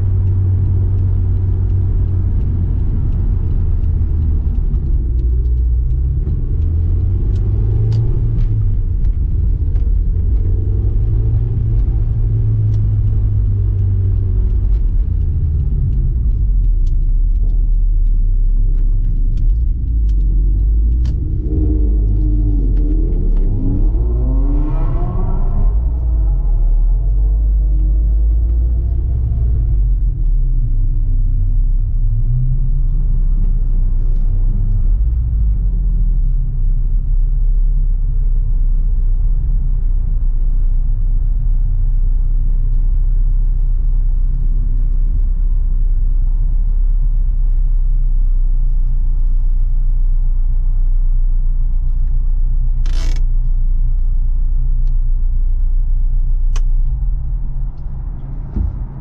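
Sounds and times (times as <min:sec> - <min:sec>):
car engine rumbling at low revs: 0:00.0 - 0:59.0.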